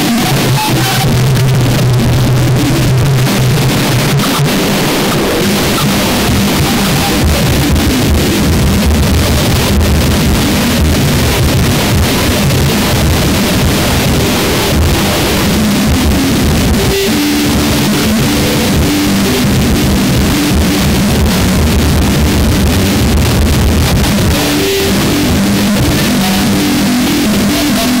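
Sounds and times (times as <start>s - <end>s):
harsh distorted noise: 0.0s - 28.0s
low droning tones: 4.8s - 28.0s.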